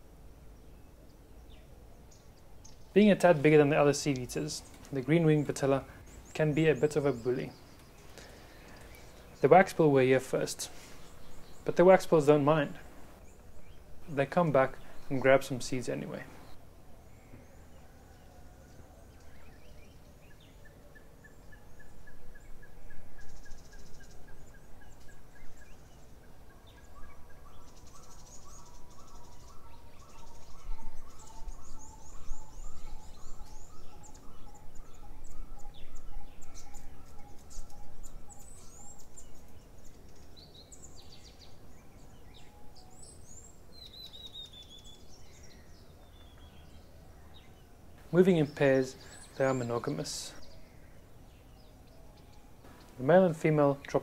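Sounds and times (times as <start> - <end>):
higher bird chirps and twitters: 0.7 - 54.0.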